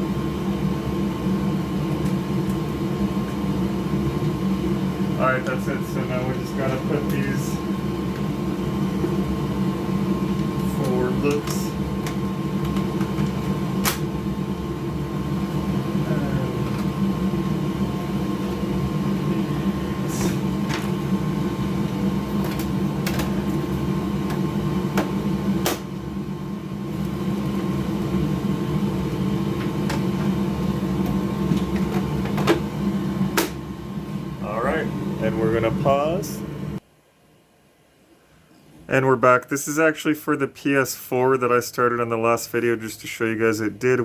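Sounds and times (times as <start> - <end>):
machine hum with high tone: 0.0 - 36.9.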